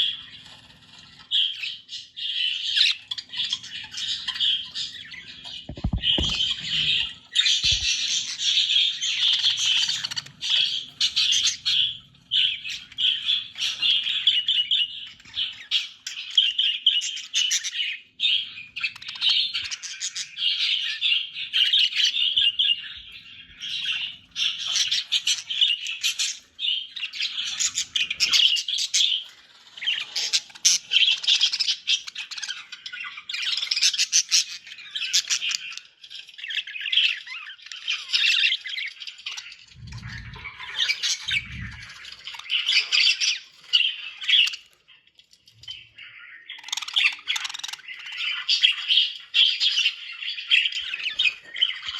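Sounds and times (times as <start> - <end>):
budgerigars chattering and warbling: 0.0 - 51.9.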